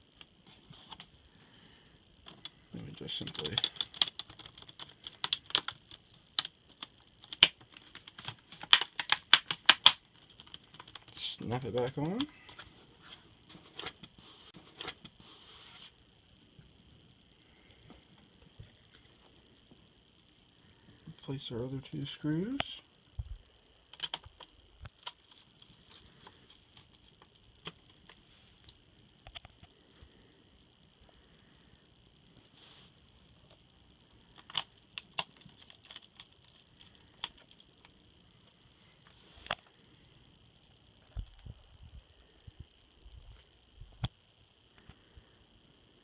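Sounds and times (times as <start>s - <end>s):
faint high hum: 0.0s - 46.0s.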